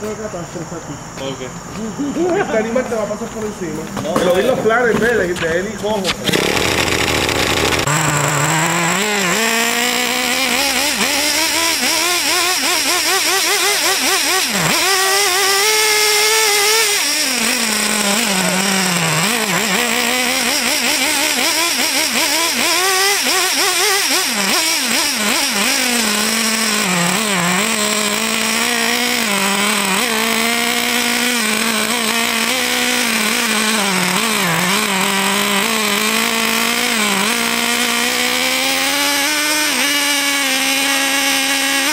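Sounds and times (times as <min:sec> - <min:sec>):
high-revving rc car engine: 0:06.0 - 0:41.9.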